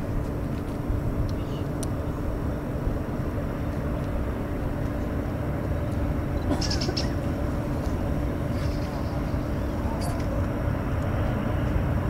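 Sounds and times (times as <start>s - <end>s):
distant jet engines rumbling: 0.0s - 12.0s
faint steady hum: 0.0s - 12.0s.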